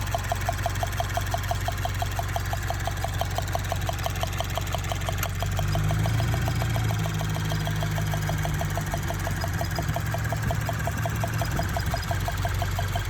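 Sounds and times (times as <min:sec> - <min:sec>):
car engine idling: 0:00.0 - 0:13.0
fast regular engine ticking: 0:00.0 - 0:13.0.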